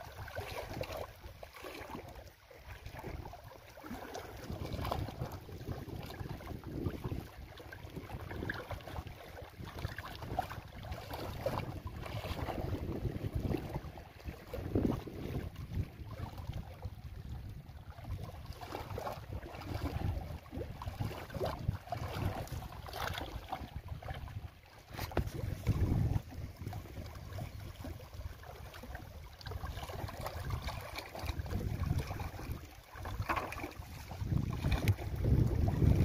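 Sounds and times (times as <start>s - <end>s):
lake water lapping on rocks: 0.0s - 36.0s
wind buffeting microphone: 4.2s - 36.0s.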